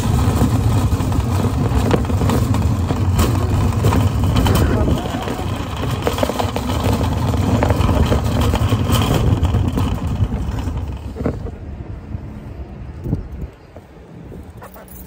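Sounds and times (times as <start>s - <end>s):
cart wheels rumbling on asphalt: 0.0s - 15.0s.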